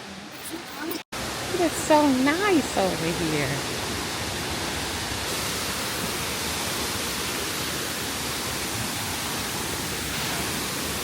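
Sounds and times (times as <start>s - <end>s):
waterfall roaring: 0.1s - 11.0s.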